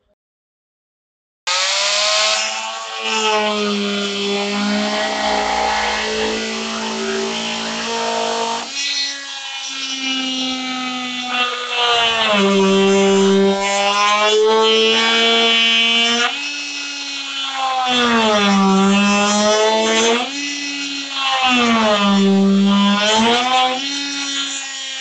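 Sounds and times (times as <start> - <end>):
oscillating tool cutting plastic: 1.5 - 25.0.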